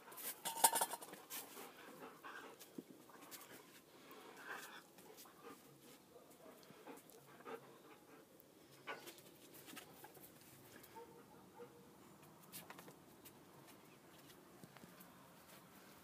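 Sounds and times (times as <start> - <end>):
faint rustling of dogs moving: 0.0 - 16.0.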